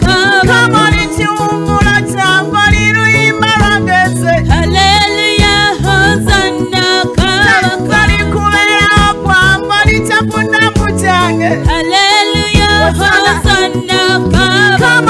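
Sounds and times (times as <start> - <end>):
instrumental backing with beat: 0.0 - 15.0
woman singing into microphone: 0.0 - 15.0.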